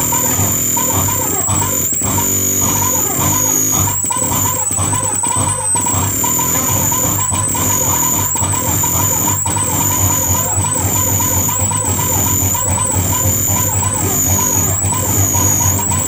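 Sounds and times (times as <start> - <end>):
high whistling tone: 0.0 - 16.0
warbling mid tone: 0.0 - 16.0.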